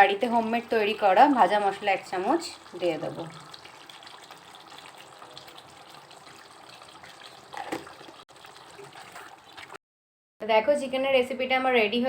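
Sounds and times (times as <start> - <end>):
curry bubbling in a pan: 0.0 - 9.8.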